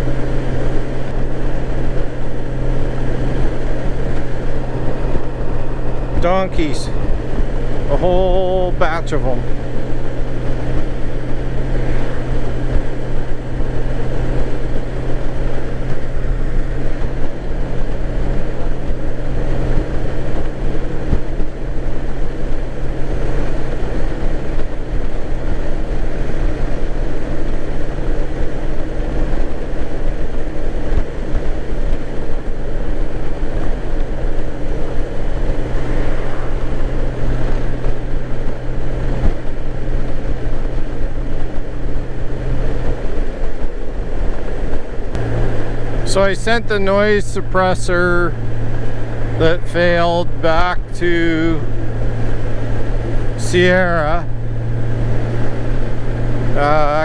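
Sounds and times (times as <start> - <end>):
motorcycle engine drone: 0.0 - 57.0
wind rush on microphone: 0.0 - 57.0.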